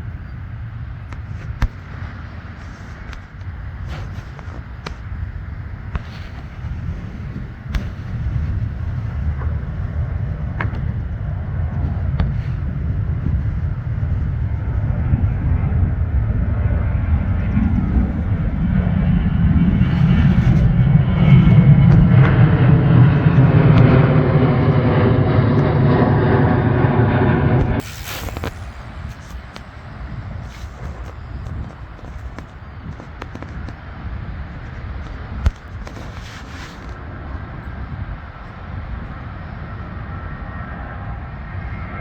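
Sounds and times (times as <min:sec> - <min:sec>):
jet airliner flying overhead: 0:00.0 - 0:42.0.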